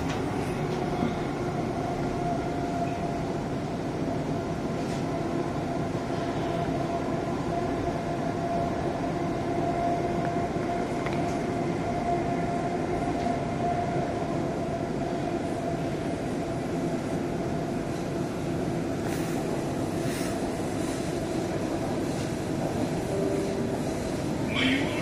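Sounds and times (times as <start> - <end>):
train rumbling on track: 0.0 - 25.0.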